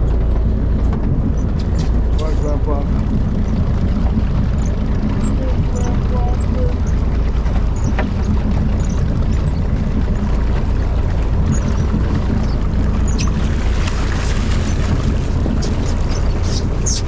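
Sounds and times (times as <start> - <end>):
boat engine rumbling: 0.0 - 17.0
water splashing against hull: 0.0 - 17.0.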